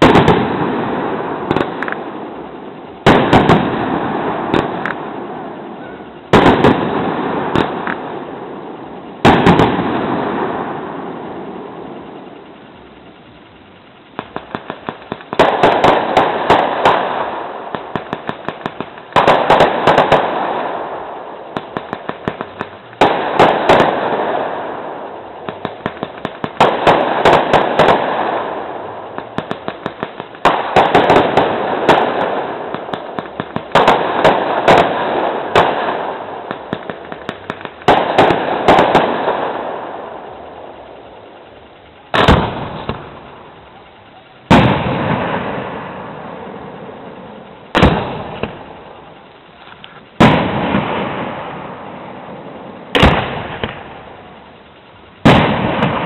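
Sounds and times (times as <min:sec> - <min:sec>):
heavy firework bangs: 0:00.0 - 0:13.4, 0:14.0 - 0:56.0
fireworks bangs and crackling: 0:00.0 - 0:56.0.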